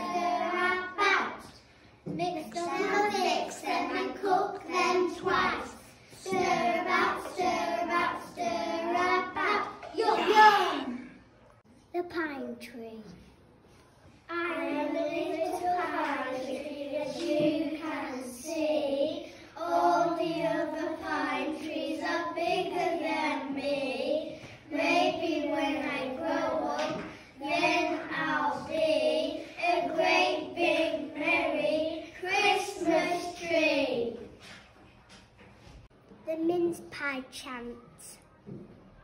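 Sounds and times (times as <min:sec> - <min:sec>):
young children singing: 0:00.0 - 0:11.3, 0:14.3 - 0:34.5.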